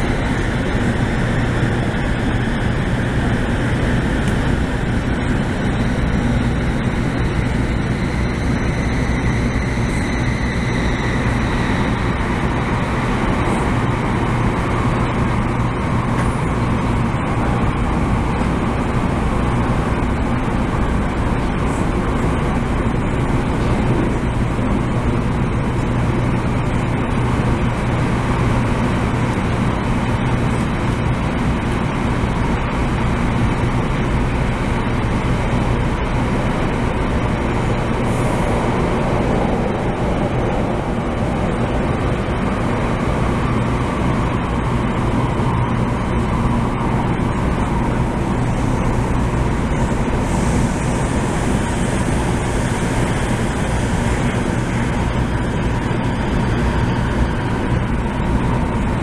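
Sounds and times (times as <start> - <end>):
high whine: 0.0 - 59.0
train interior rushing noise: 0.0 - 59.0.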